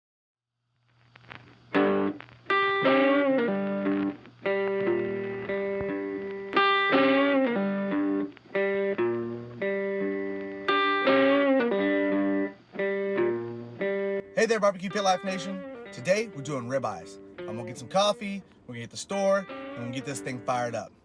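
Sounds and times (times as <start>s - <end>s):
electric guitar riff: 1.2s - 21.0s.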